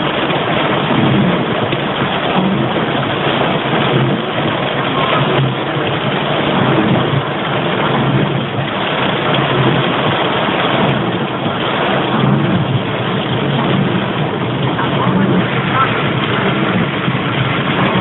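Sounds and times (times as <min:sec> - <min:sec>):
car engine and tyres: 0:00.0 - 0:18.0
heavy rain on car roof: 0:00.0 - 0:18.0.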